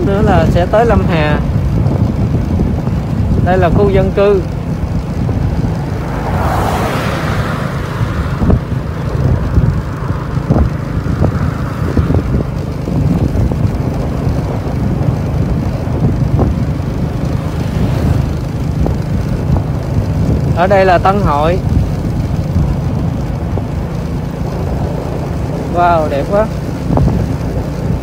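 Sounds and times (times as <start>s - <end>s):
vehicle road rumble: 0.0s - 28.0s
wind on microphone: 0.0s - 28.0s.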